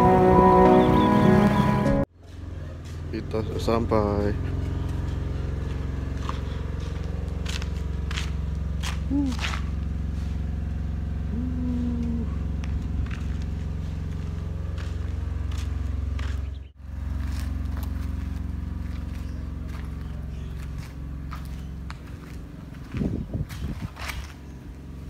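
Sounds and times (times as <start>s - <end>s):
engine idling: 0.6s - 25.0s.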